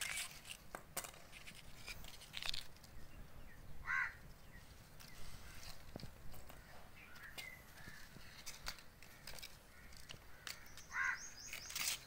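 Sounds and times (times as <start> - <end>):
branches rustling and clicking: 0.0 - 3.0, 4.7 - 12.0.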